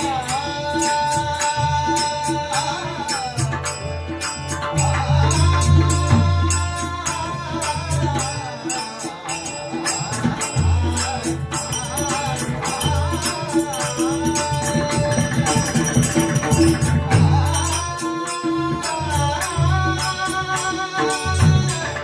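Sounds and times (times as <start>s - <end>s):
sung devotional chant: 0.0s - 22.0s.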